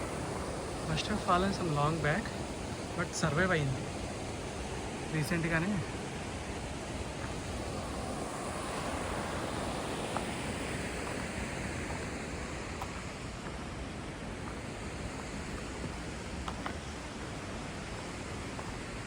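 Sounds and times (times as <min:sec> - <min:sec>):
river rapids rushing: 0:00.0 - 0:19.0.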